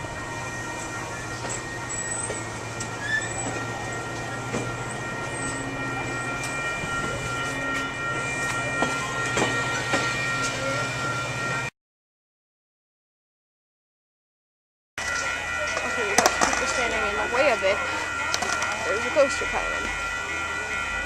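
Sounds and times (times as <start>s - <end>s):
high-pitched train tones: 0.0s - 11.7s, 15.0s - 21.0s.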